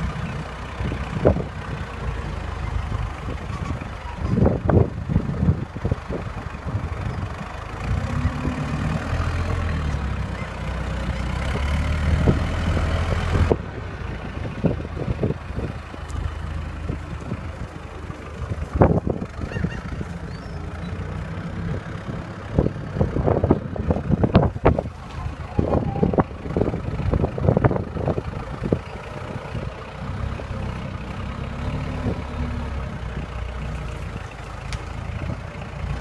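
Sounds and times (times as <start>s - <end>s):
heavy truck engine running: 0.0s - 36.0s.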